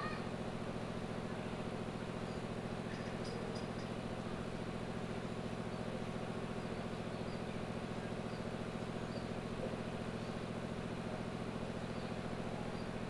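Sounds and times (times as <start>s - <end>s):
low pulsing droning hum: 0.0s - 13.0s.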